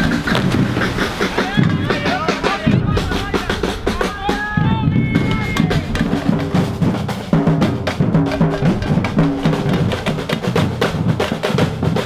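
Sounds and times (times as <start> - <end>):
bass and snare drums playing: 0.0 - 12.0.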